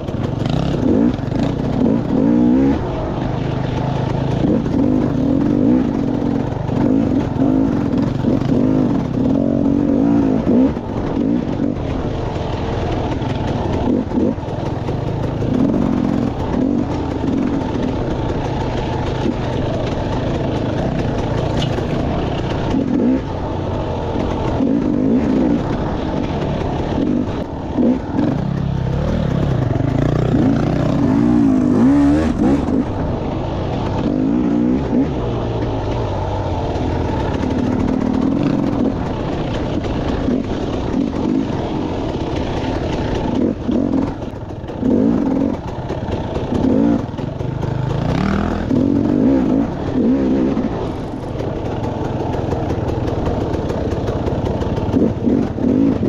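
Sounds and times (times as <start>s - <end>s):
bike clattering over rough ground: 0.0s - 56.0s
dirt bike engine revving: 0.0s - 56.0s.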